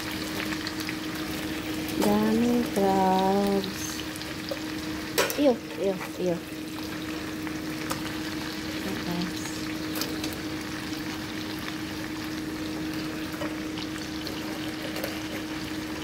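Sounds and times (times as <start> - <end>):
crabs sizzling in hot pot: 0.0 - 16.0.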